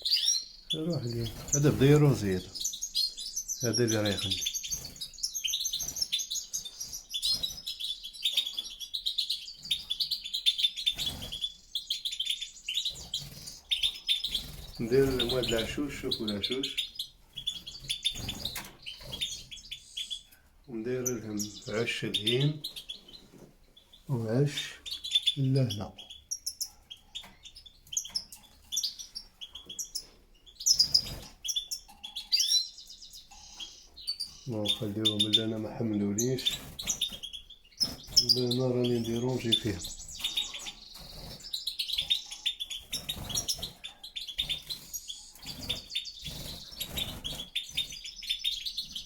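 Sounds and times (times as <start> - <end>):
finches twittering and chirping: 0.0 - 49.0.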